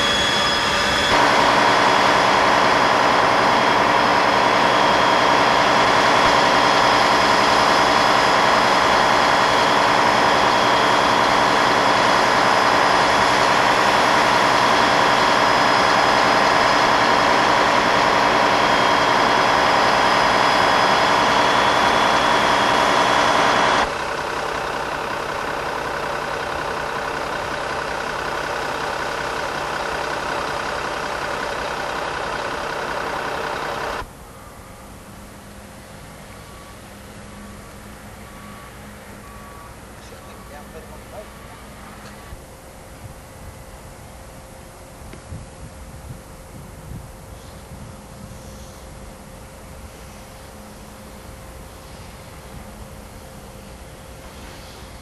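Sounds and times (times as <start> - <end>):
engine hum: 0.0 - 55.0
mechanical whine: 0.0 - 55.0.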